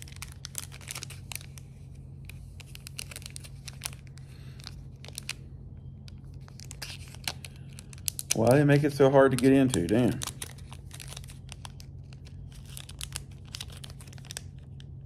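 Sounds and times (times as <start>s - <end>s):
plastic packaging crinkling and tearing: 0.0s - 15.0s
steady low hum: 0.0s - 15.0s.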